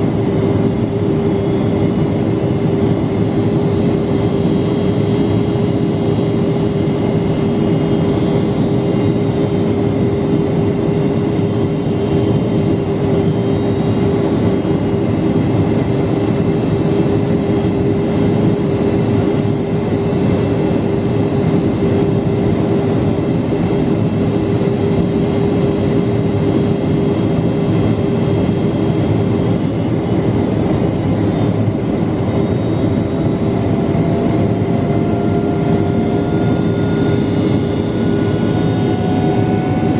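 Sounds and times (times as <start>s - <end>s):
constant hum: 0.0s - 39.9s
jet engines droning: 0.0s - 39.9s.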